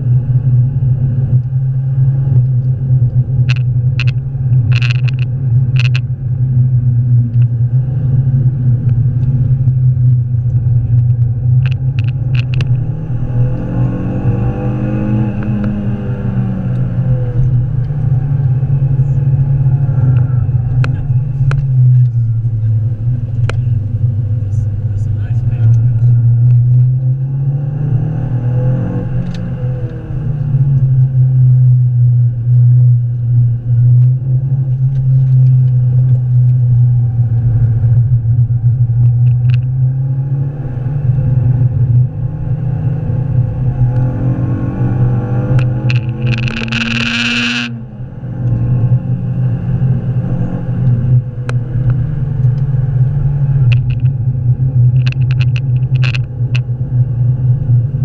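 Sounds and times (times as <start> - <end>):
car engine drone: 0.0 - 58.0
road and wind noise: 0.0 - 58.0.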